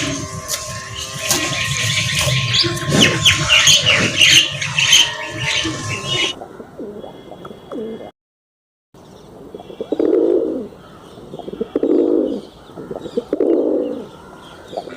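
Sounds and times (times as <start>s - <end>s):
birds chirping: 0.0s - 8.1s, 9.0s - 14.9s.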